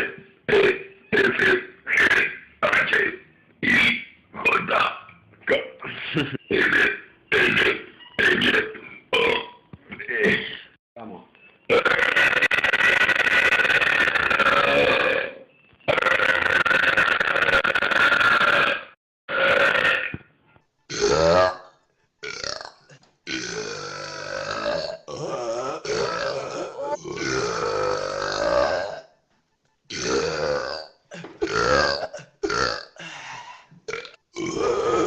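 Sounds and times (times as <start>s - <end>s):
man belching: 0.0s - 10.8s, 11.7s - 20.2s, 20.9s - 29.1s, 29.9s - 33.0s, 33.9s - 35.0s.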